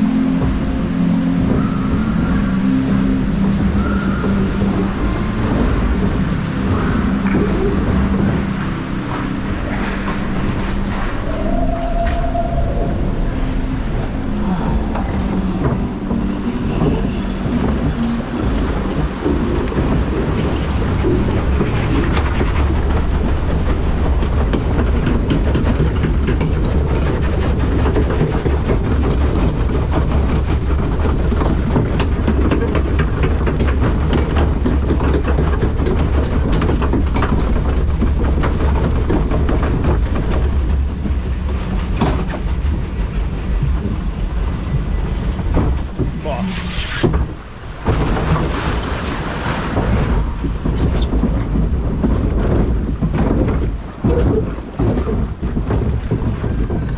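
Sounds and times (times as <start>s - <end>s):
raft ride low rumble: 0.0s - 56.9s.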